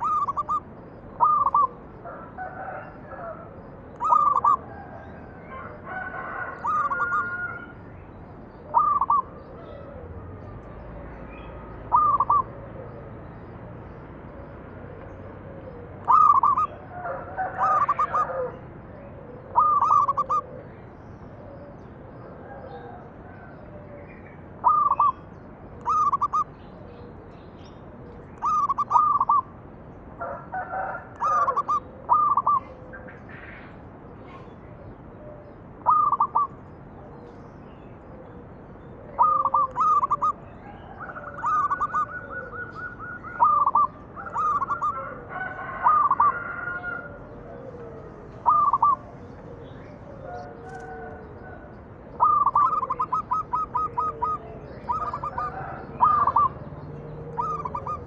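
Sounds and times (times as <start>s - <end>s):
dove cooing: 0.0s - 7.8s, 8.5s - 29.5s, 30.2s - 58.0s.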